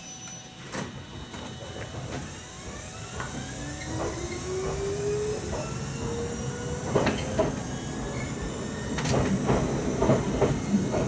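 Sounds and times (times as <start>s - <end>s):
train motor whine: 0.0s - 11.0s
train running rumble: 1.0s - 11.0s.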